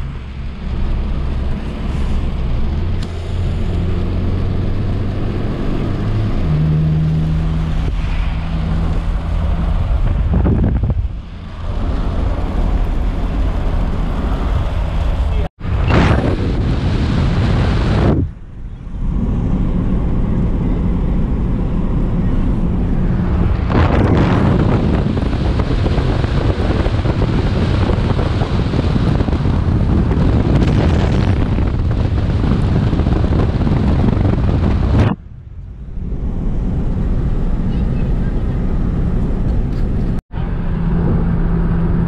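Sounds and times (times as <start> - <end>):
wind and rain buffeting microphone: 0.0 - 40.2
car road noise: 0.0 - 42.0.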